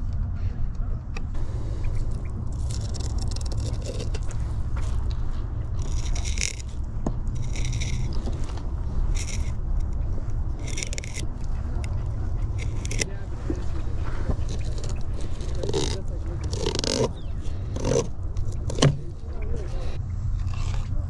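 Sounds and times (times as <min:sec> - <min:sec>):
steady low rumble: 0:00.0 - 0:21.0
knife scraping fish backbone: 0:01.9 - 0:20.9.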